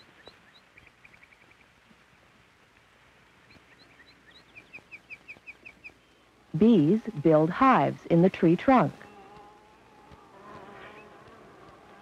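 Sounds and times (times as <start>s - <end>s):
small songbirds chirping: 0.0s - 2.1s, 3.2s - 12.0s.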